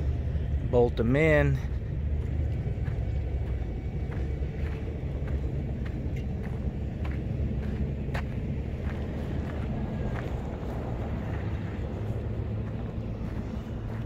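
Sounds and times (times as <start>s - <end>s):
low outdoor rumble: 0.0s - 14.0s
footsteps on loose dirt: 0.1s - 14.0s.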